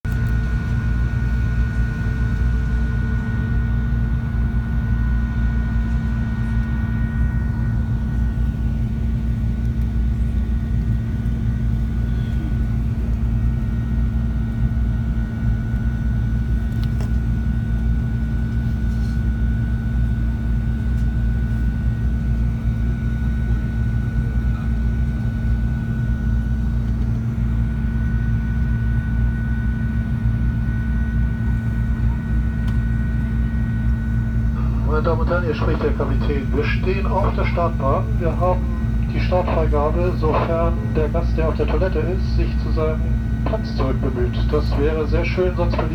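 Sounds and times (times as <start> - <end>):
airplane cabin drone: 0.1 - 45.9
faint high engine whine: 0.1 - 45.9.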